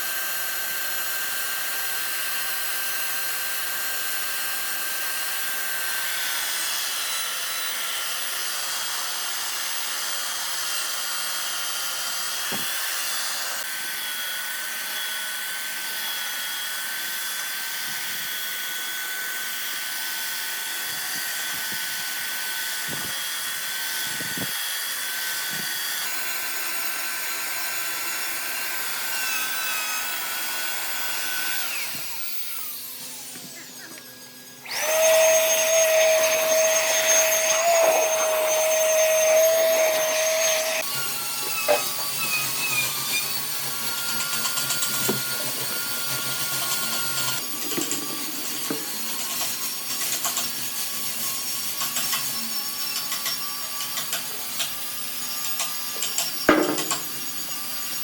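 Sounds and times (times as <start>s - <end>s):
another power tool running: 0.0s - 58.0s
louder lower-pitched power tool: 0.0s - 58.0s
power tool whining: 0.0s - 58.0s.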